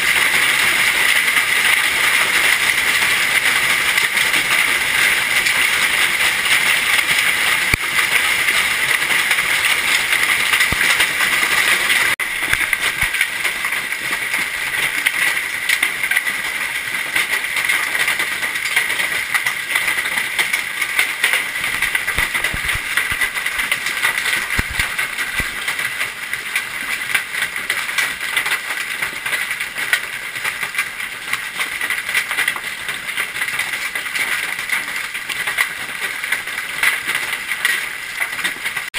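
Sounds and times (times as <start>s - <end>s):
hail clattering: 0.0s - 38.9s.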